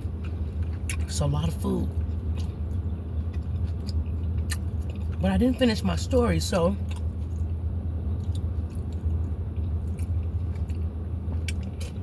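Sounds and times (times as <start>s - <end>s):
person chewing food: 0.0s - 5.8s, 6.5s - 12.0s
low hum: 0.0s - 12.0s.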